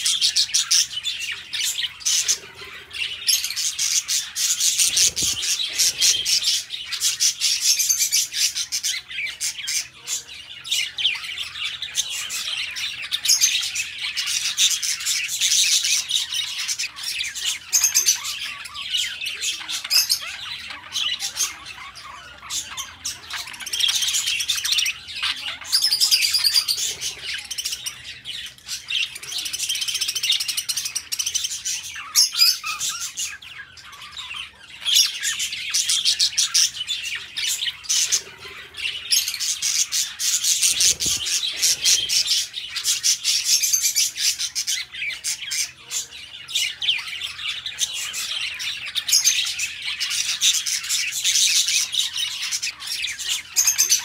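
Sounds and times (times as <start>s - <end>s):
budgerigars chattering and warbling: 0.0s - 54.0s.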